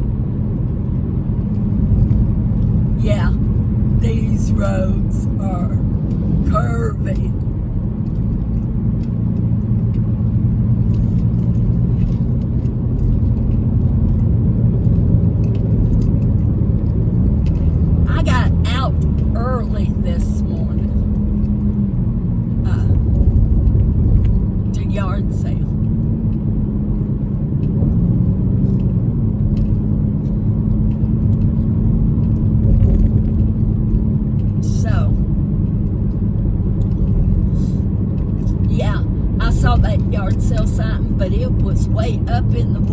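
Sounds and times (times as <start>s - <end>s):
car engine and tyres rumbling: 0.0s - 42.9s
constant low hum: 0.0s - 42.9s.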